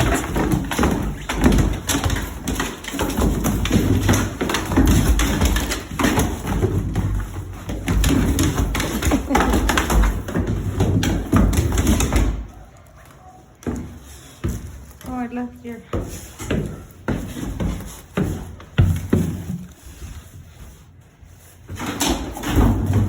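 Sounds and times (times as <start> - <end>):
footsteps climbing stairs: 0.0 - 23.0.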